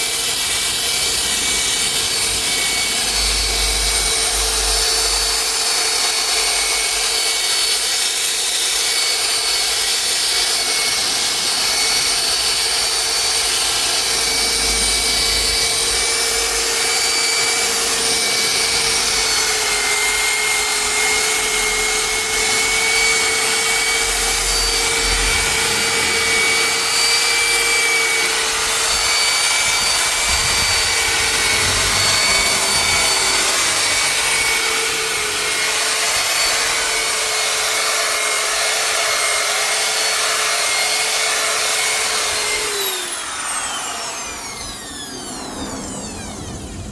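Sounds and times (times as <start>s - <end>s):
power sander motor whine: 0.0s - 46.9s.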